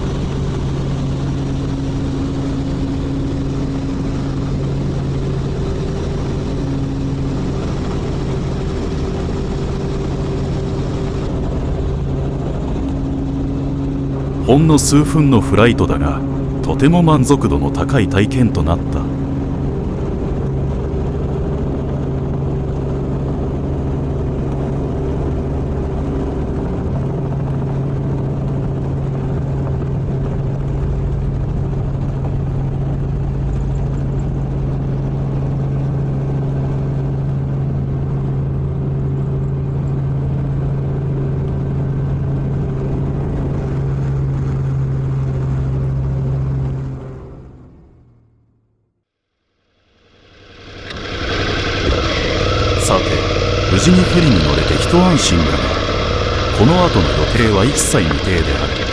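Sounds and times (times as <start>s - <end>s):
helicopter flying: 0.0s - 58.9s.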